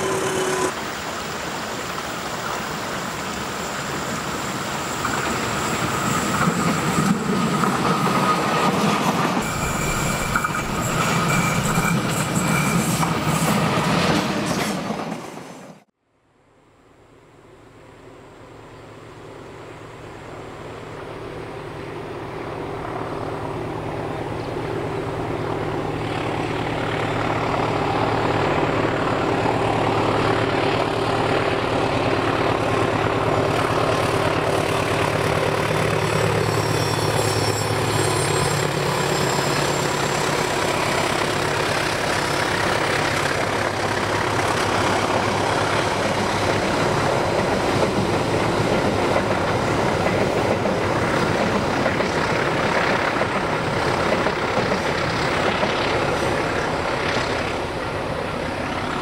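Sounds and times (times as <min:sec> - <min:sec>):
train wheels rumbling on rails: 0:00.0 - 0:15.9, 0:19.9 - 0:59.0
diesel locomotive engine hum: 0:00.0 - 0:59.0.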